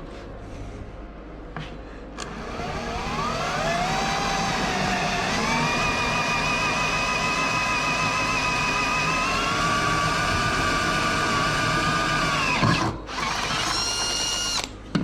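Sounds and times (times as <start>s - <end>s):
electric drill whining: 2.2s - 14.7s.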